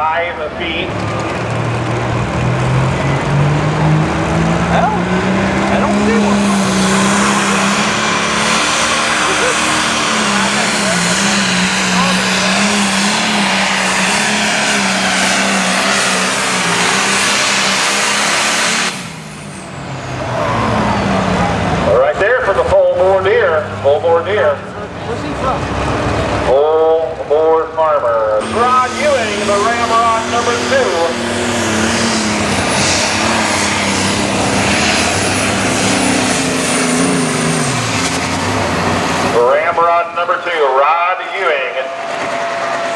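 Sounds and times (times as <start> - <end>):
diesel engine running loud: 0.0 - 42.9.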